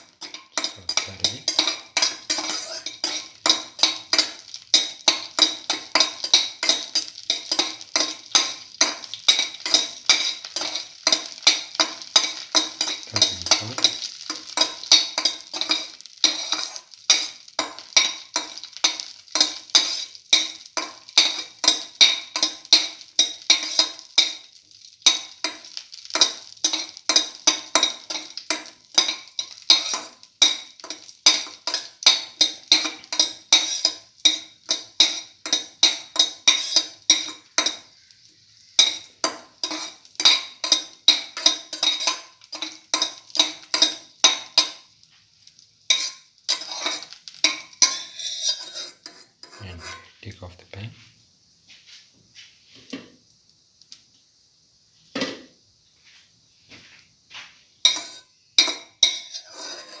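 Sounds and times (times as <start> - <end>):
metal spoon scraping a pan: 0.0 - 50.3, 56.8 - 60.0
nuts frying in oil: 0.0 - 60.0.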